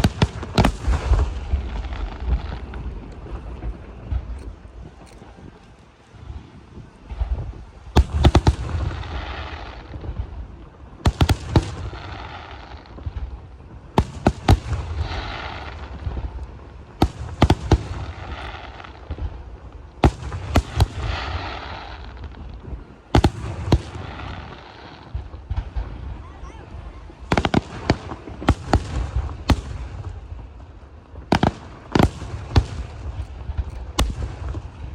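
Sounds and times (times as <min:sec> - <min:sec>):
hissing crackling firework tail: 0:00.0 - 0:34.9.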